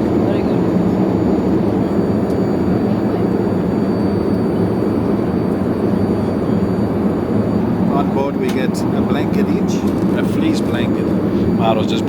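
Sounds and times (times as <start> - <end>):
airplane cabin rushing hum: 0.0 - 12.0.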